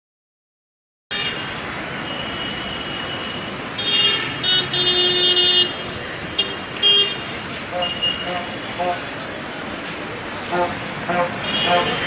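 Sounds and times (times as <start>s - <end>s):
vehicle horns honking: 1.1s - 9.2s, 10.4s - 12.0s
city street traffic: 1.1s - 12.0s.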